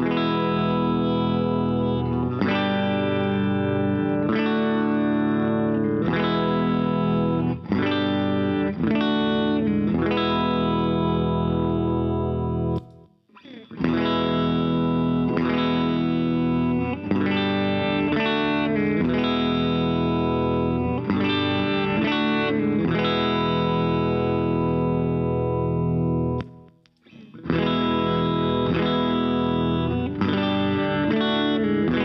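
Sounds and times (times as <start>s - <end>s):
electric guitar strumming chords: 0.0s - 32.0s.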